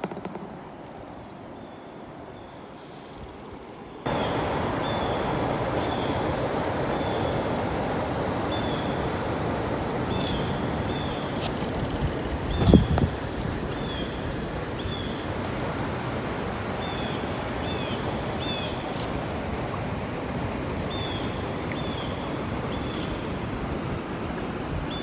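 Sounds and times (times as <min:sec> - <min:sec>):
moving water: 0:00.0 - 0:25.0
wind: 0:00.0 - 0:25.0.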